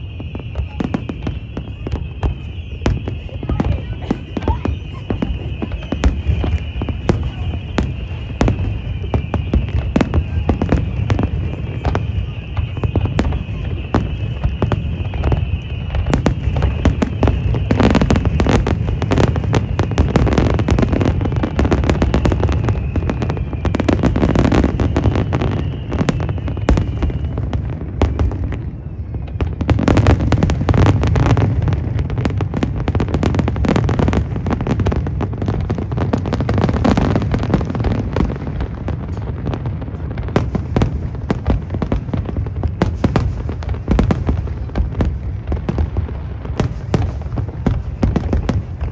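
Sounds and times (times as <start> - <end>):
fireworks bangs and booms: 0.0 - 48.9.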